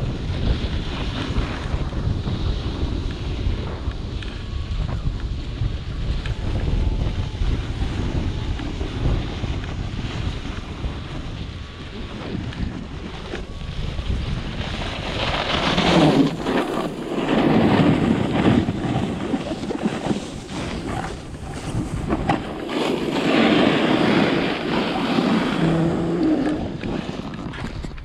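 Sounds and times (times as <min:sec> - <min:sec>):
snowboard scraping on snow: 0:00.0 - 0:06.8, 0:07.4 - 0:28.0
wind buffeting microphone: 0:00.0 - 0:28.0.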